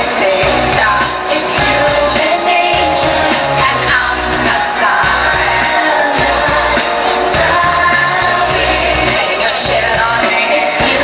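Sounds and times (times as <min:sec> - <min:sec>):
electric guitar: 0:00.0 - 0:11.0
live pop-rock band: 0:00.0 - 0:11.0
woman singing: 0:00.0 - 0:11.0.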